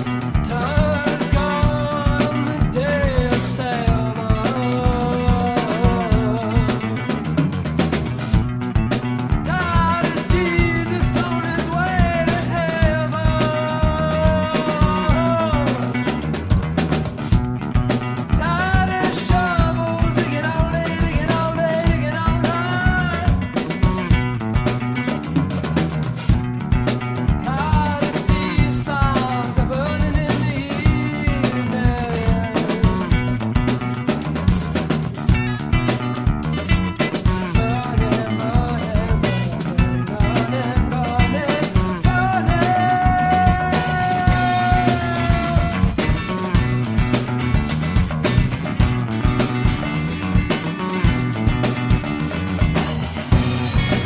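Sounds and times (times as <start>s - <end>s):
bass line: 0.0s - 54.0s
bending melody line: 0.0s - 54.0s
rock band playing: 0.0s - 54.0s
steady drum beat: 0.0s - 54.0s.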